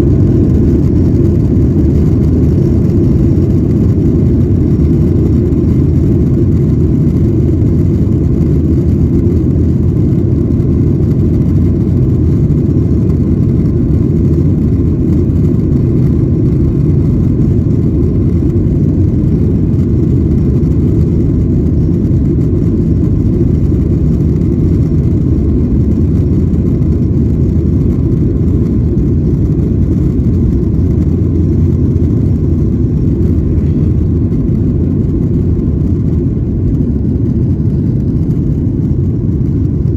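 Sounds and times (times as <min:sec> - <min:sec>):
airliner cabin jet engine rumble: 0:00.0 - 0:39.9.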